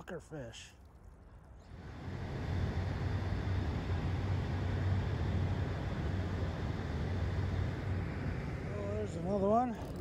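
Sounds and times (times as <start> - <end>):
low engine rumble: 1.7 - 10.0.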